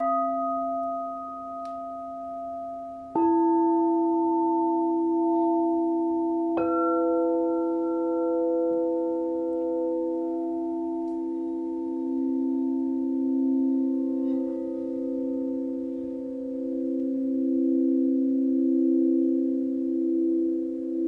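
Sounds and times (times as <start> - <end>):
singing bowl struck: 0.0 - 21.0
singing bowls ringing: 0.0 - 21.0.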